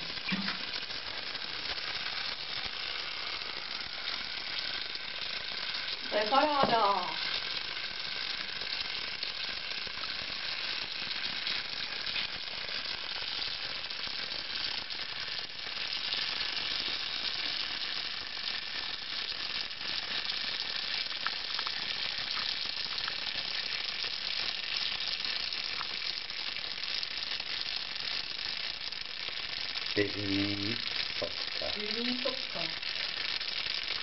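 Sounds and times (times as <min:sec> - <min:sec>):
beer foam fizzing: 0:00.0 - 0:34.0.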